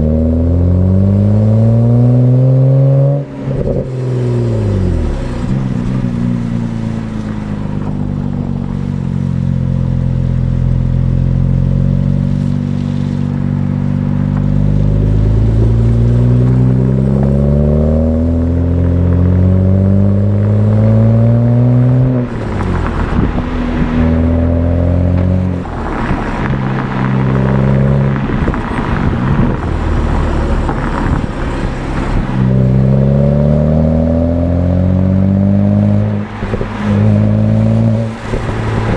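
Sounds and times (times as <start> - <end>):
car engine revving under load: 0.0 - 38.9
exhaust crackling and popping: 3.2 - 38.9.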